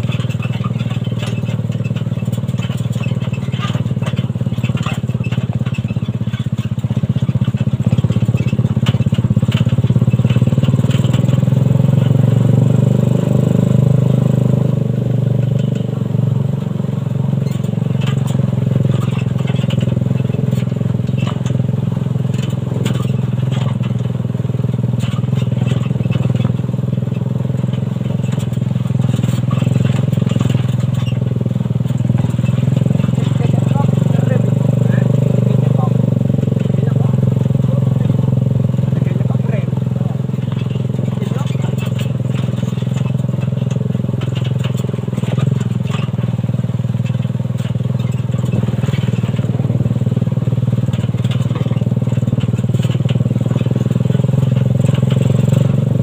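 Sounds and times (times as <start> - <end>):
knocks and rattles: 0.0 - 56.0
motorcycle engine running: 0.0 - 56.0.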